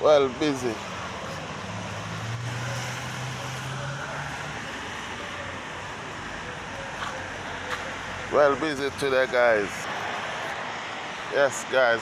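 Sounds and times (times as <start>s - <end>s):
passing vehicle engine hum: 0.0s - 11.3s
road traffic noise: 0.0s - 12.0s.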